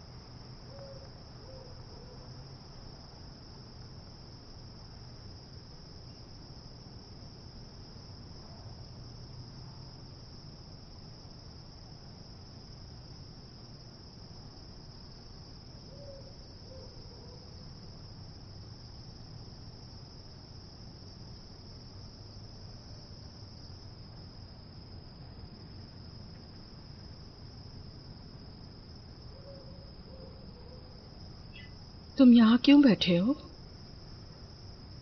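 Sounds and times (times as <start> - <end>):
crickets chirping: 0.0 - 35.0
low steady hum: 0.0 - 35.0.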